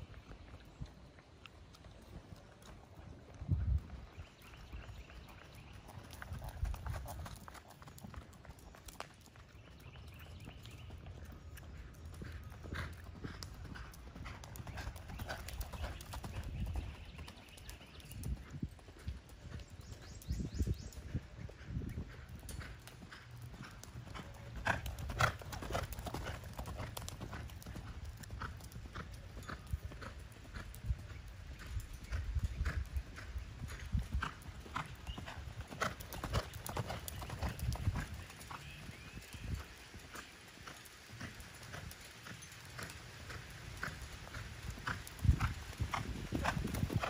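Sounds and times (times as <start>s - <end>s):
dull hoofbeats on soft ground: 0.0s - 47.0s.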